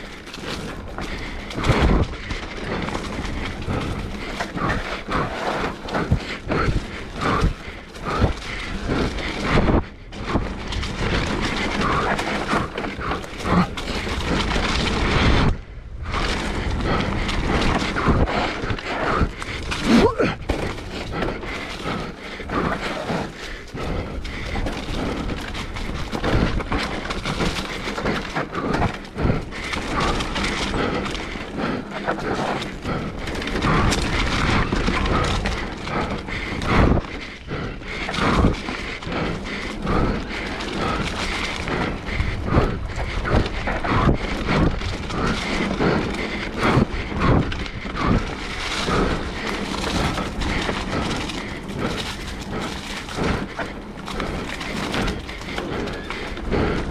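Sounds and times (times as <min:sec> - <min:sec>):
bike rattling: 0:00.0 - 0:56.9
bike tyre noise on dirt: 0:00.0 - 0:56.9
knocks and thuds over bumps: 0:00.0 - 0:56.9.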